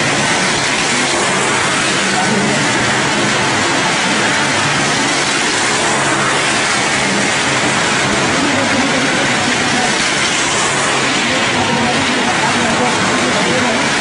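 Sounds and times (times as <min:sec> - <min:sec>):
car engine running: 0:00.0 - 0:14.0
dense even noise: 0:00.0 - 0:14.0.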